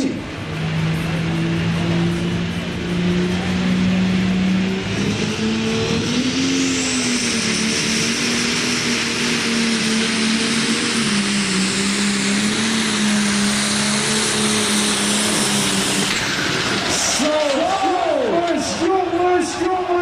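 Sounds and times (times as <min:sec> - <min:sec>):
heavy rushing noise: 0:00.0 - 0:20.0
tractor engine running flat out: 0:00.0 - 0:20.0.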